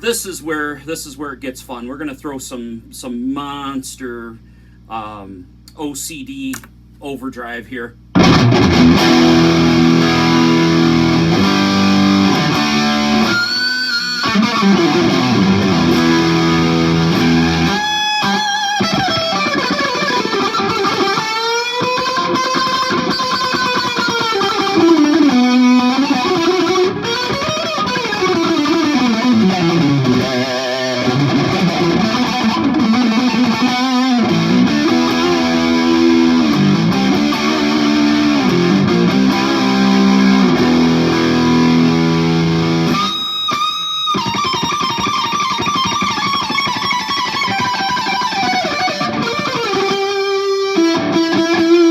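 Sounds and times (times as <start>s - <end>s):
overdriven electric guitar lead: 8.1s - 51.9s.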